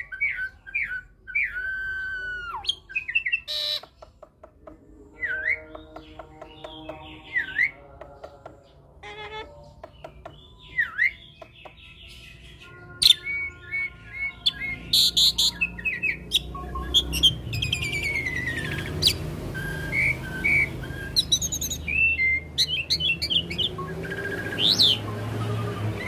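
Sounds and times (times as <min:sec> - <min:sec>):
starling singing: 0:00.0 - 0:26.0.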